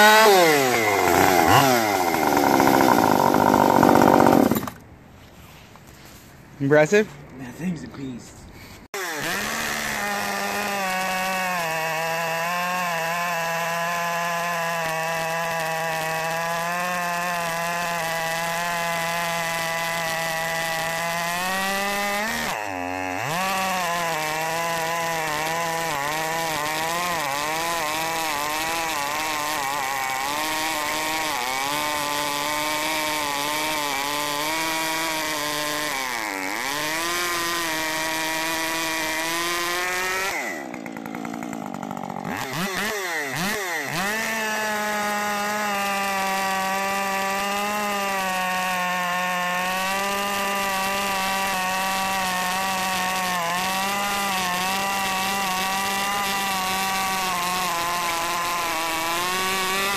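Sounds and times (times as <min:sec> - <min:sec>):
chainsaw cutting log: 0:00.0 - 0:04.9, 0:08.8 - 0:59.9.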